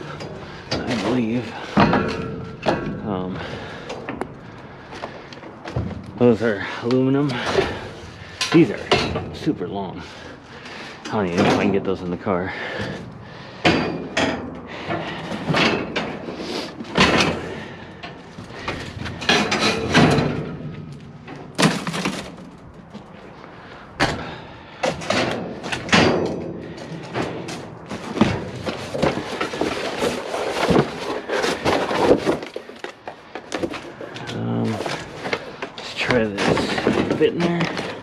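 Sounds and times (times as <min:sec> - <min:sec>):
metal bangs and thuds: 0:00.0 - 0:09.8, 0:11.0 - 0:23.2, 0:24.0 - 0:32.6, 0:34.6 - 0:38.0
scrap metal clanking: 0:00.0 - 0:23.2, 0:24.0 - 0:38.0.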